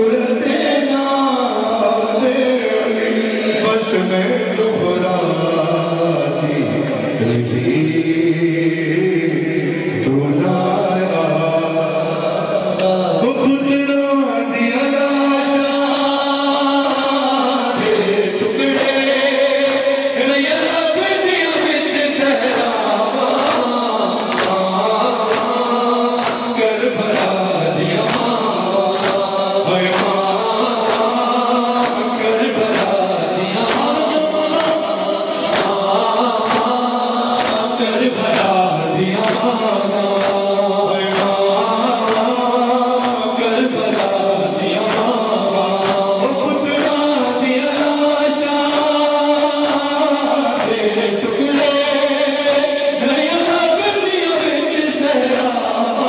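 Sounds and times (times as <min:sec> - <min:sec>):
voices chanting a mournful lament: 0:00.0 - 0:56.0.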